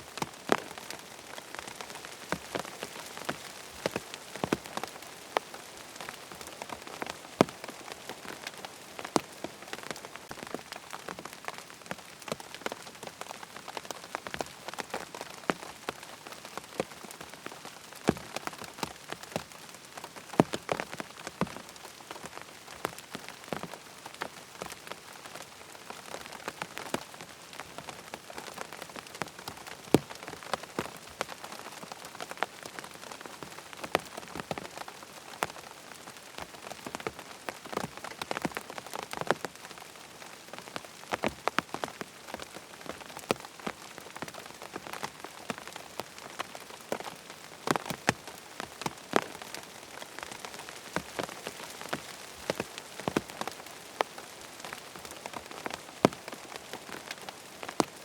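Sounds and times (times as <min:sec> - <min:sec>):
rain pattering on tent fabric: 0:00.0 - 0:58.0.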